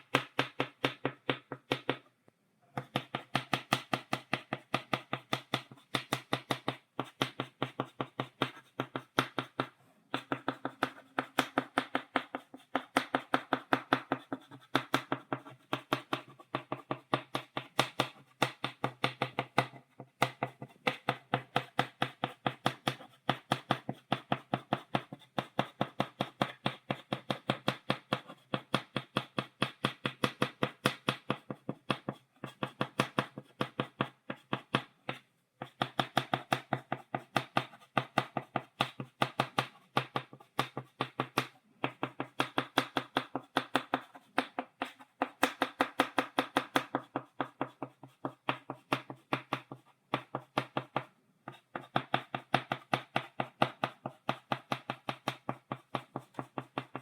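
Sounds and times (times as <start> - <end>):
chalk tapping on blackboard: 0.0 - 2.0, 2.8 - 57.0.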